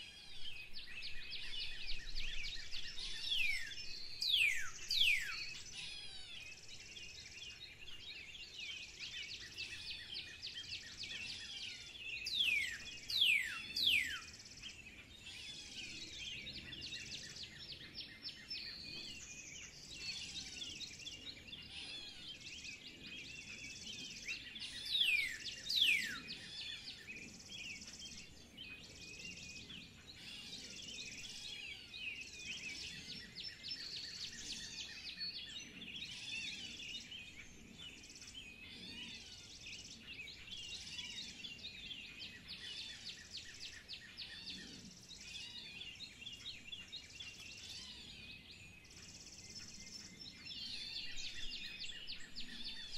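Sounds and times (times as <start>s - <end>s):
birds chirping and calling: 0.0s - 52.9s.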